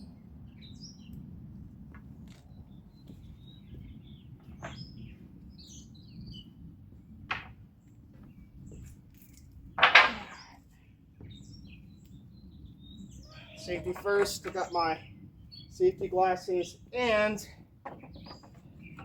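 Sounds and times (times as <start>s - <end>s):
birds chirping: 0.0s - 1.3s, 1.9s - 19.0s.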